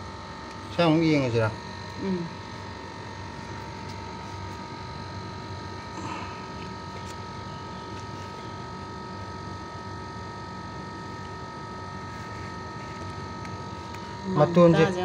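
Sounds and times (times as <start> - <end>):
machine hum with high tones: 0.0 - 15.0.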